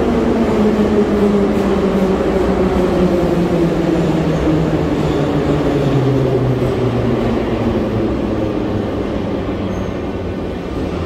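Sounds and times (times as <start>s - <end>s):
metro train humming: 0.0s - 11.0s.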